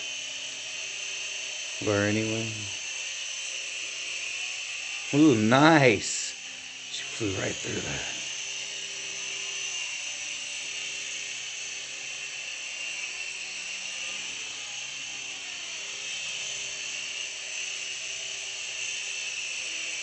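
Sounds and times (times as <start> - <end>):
toy helicopter motor whine: 0.0 - 20.0.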